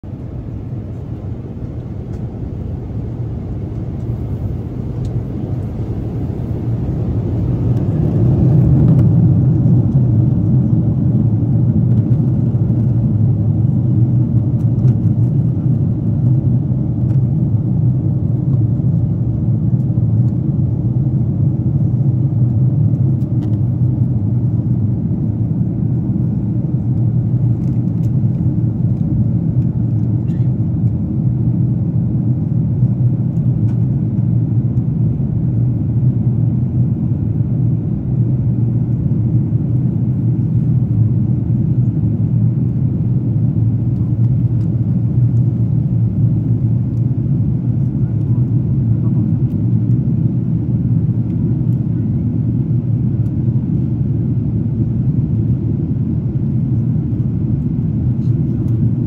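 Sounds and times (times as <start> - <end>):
airliner cabin engine and airflow roar: 0.0 - 59.0.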